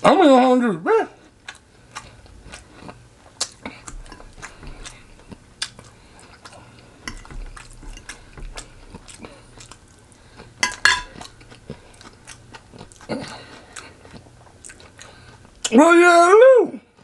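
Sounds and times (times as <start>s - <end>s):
person chewing crunchy food: 1.2s - 15.8s.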